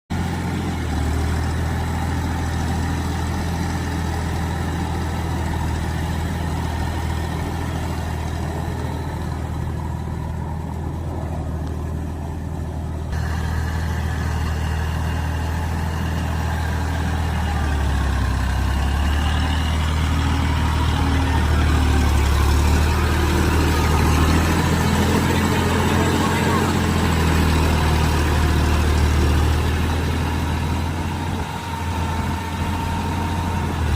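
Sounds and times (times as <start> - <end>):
tractor diesel engine droning: 0.1 - 33.9.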